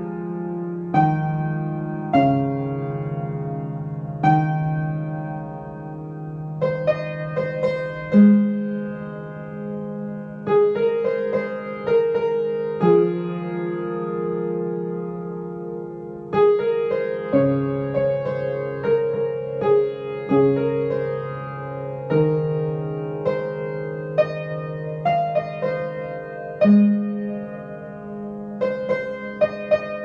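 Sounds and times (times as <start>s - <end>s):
slow soft piano chords: 0.0s - 30.0s.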